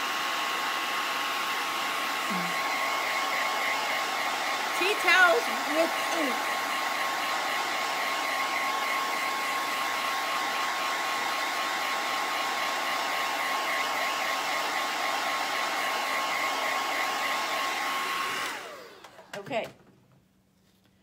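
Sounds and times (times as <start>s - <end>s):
blow dryer running: 0.0s - 19.4s.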